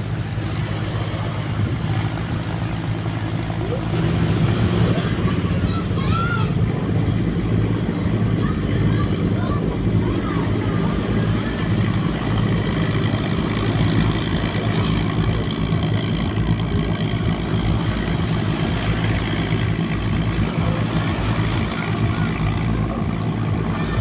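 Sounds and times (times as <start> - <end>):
ship engine humming: 0.0 - 24.0.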